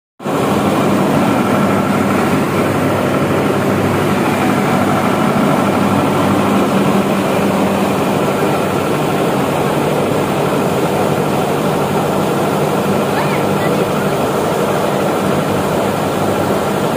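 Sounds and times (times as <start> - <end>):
water gushing into a tank: 0.2 - 16.9.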